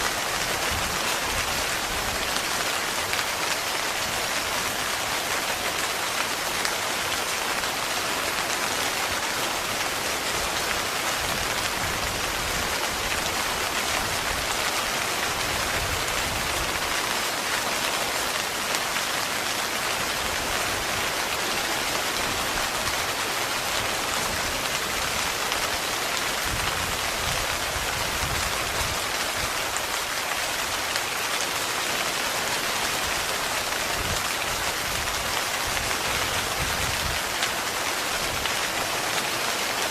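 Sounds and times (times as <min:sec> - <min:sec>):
heavy rain drumming on a tent: 0:00.0 - 0:39.9.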